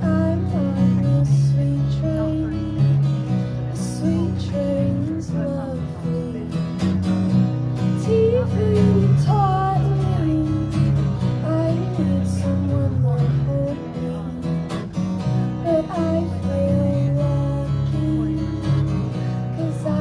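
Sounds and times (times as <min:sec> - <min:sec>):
woman singing: 0:00.0 - 0:03.0, 0:03.7 - 0:07.0, 0:07.8 - 0:14.7, 0:15.5 - 0:20.0
strummed acoustic guitar: 0:00.0 - 0:20.0.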